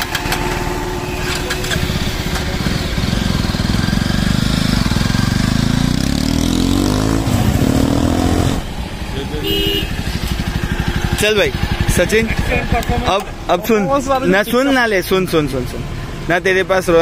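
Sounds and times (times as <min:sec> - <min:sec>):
motorcycle engine revving: 0:00.0 - 0:15.1.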